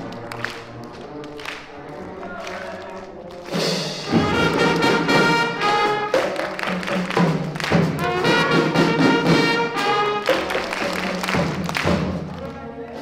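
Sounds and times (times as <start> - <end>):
brass instruments melody: 0.0 - 12.8
marching band playing: 0.0 - 13.0.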